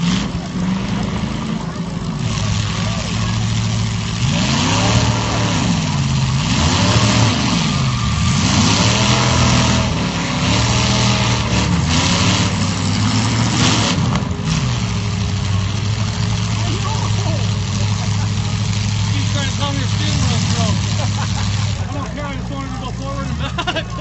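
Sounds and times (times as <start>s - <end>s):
car engines revving: 0.0s - 24.0s
drone of engines running: 0.0s - 24.0s.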